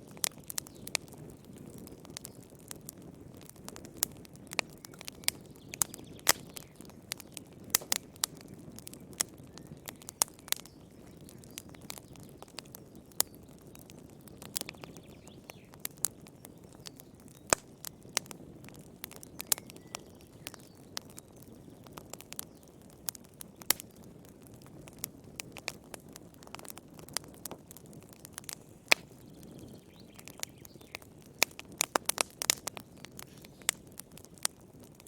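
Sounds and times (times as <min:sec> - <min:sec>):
soft rumble of flame: 0:00.0 - 0:35.0
wood fire crackling and popping: 0:00.0 - 0:35.0.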